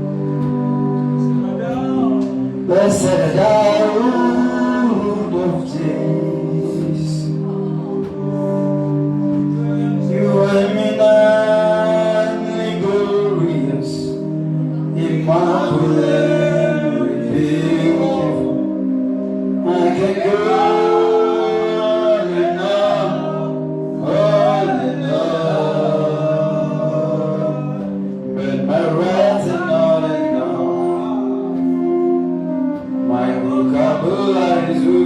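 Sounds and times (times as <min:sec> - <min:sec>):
gospel singing with choir: 0:00.0 - 0:35.0
sustained keyboard chords: 0:00.0 - 0:35.0.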